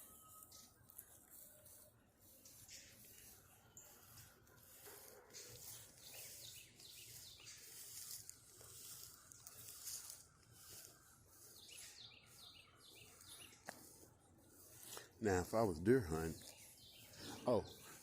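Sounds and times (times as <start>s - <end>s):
faint bird chirps: 0.0s - 18.0s
woodland background hiss: 0.0s - 18.0s.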